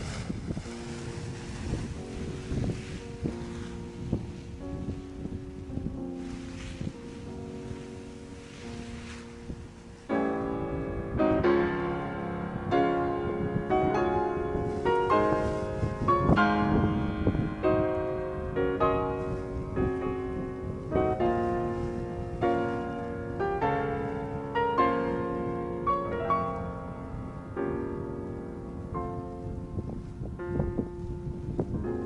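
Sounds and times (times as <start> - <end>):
gentle piano music: 0.0 - 32.0
low wind rumble: 0.0 - 32.0.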